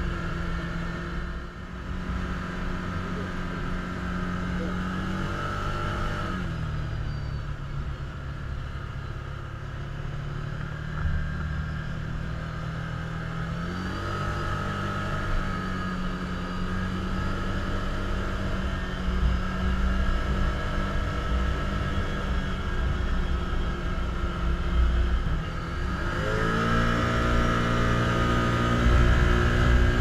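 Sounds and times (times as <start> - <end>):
vehicle engine running while driving: 0.0 - 30.0.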